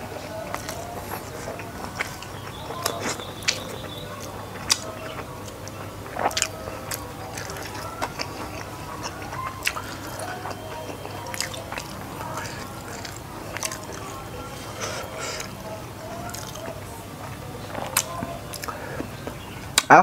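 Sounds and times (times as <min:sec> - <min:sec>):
chewing with lip smacks: 0:00.0 - 0:20.0.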